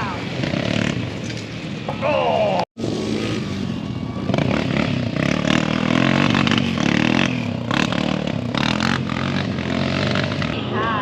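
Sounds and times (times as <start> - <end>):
dirt bike and atv engines revving: 0.0 - 11.0.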